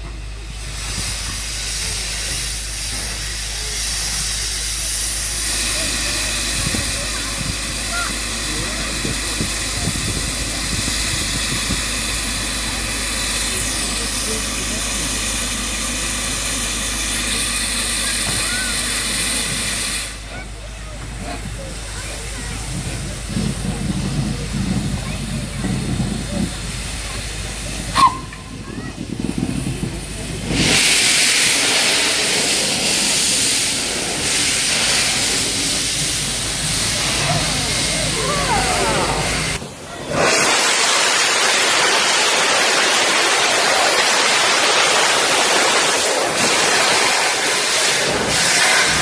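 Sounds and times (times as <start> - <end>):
steam locomotive hissing steam: 0.0 - 49.0.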